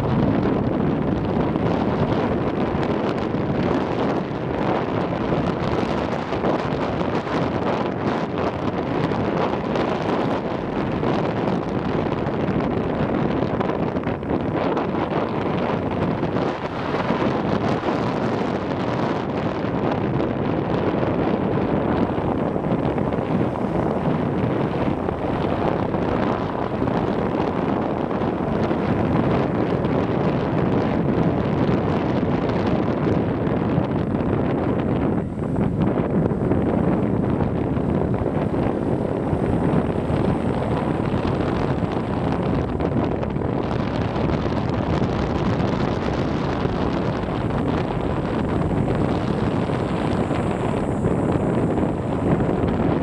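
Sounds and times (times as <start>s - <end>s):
motorbike riding noise: 0.0s - 53.0s
wind buffeting the microphone: 0.0s - 53.0s.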